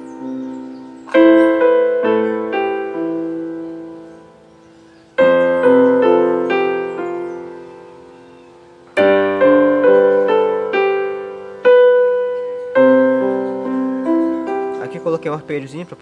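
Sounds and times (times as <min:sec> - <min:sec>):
piano chords with arpeggios: 0:00.0 - 0:16.0.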